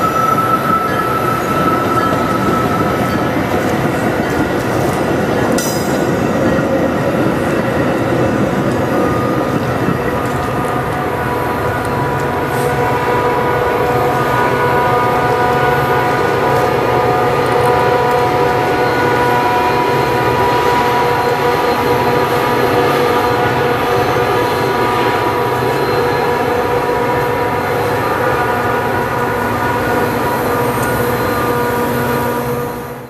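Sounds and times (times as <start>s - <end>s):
steady train whine: 0.0s - 33.0s
train wheels rumbling on rail: 0.0s - 33.0s.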